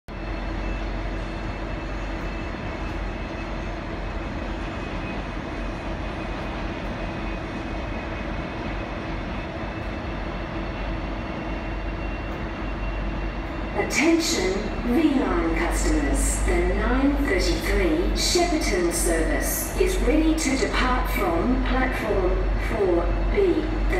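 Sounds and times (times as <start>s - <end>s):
diesel locomotive idling: 0.1s - 23.9s
constant hum: 1.0s - 23.9s.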